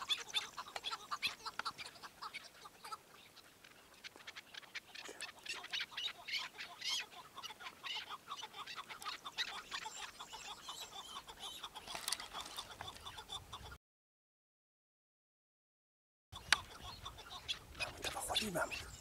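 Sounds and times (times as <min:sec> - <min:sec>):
partridge calling: 0:00.0 - 0:13.8, 0:16.4 - 0:19.0.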